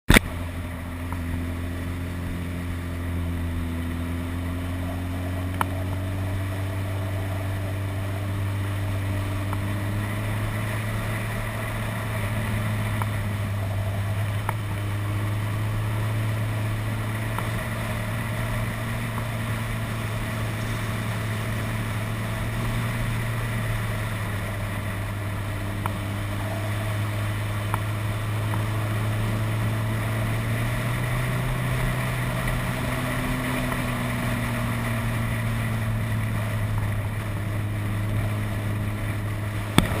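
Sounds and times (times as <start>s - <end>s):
motorcycle engine cruising: 0.1s - 40.0s.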